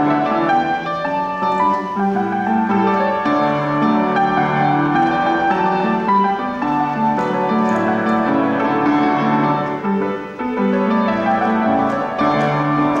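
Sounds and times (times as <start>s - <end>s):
instrumental dance music on keyboard: 0.0s - 13.0s.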